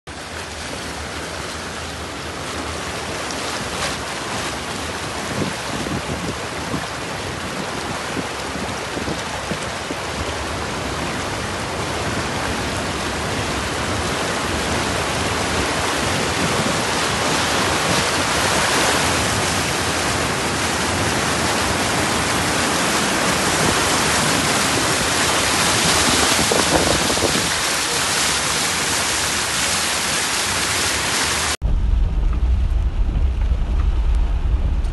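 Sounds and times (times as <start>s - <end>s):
floodwater rushing through street: 0.1s - 31.6s.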